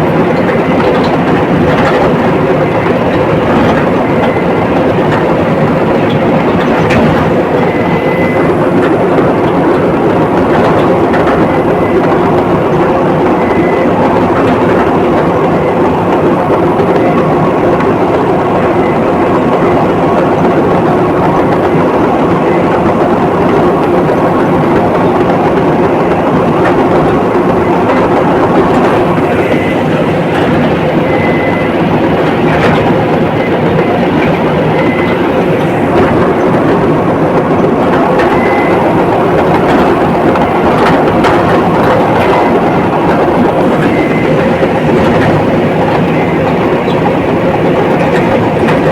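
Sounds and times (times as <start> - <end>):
bulldozer engine and tracks running: 0.0 - 48.9.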